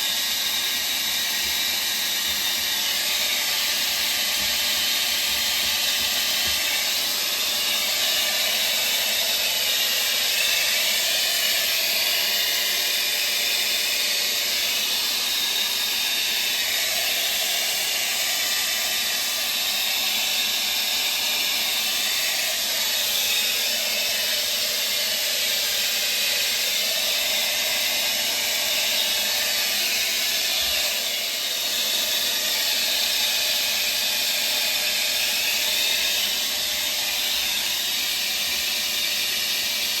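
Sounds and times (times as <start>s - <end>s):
hair dryer blowing: 0.0s - 40.0s.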